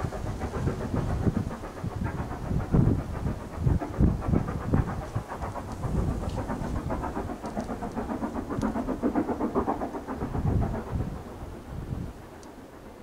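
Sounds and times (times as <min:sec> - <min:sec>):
steam locomotive chuffing: 0:00.0 - 0:13.0
wind buffeting microphone: 0:00.0 - 0:13.0.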